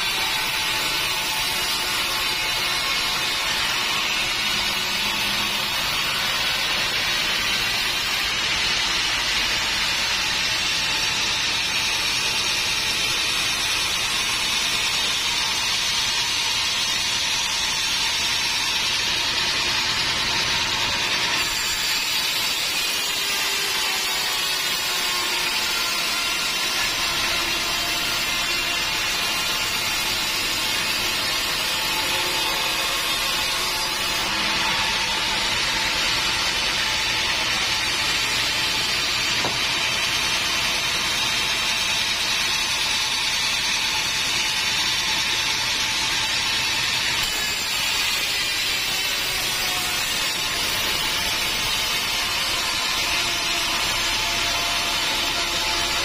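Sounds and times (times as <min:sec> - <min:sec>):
band saw cutting log: 0:00.0 - 0:56.0
sawmill machine running: 0:00.0 - 0:56.0.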